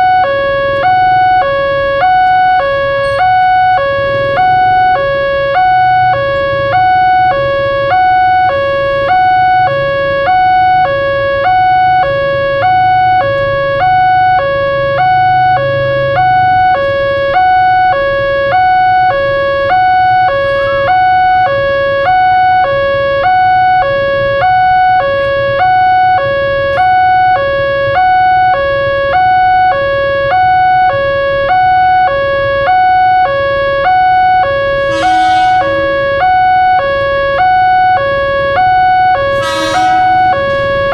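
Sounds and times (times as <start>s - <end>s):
crossing alarm two-tone signal: 0.0s - 40.9s.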